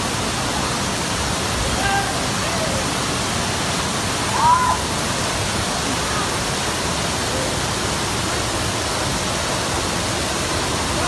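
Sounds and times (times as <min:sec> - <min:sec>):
floodwater roaring: 0:00.0 - 0:11.0.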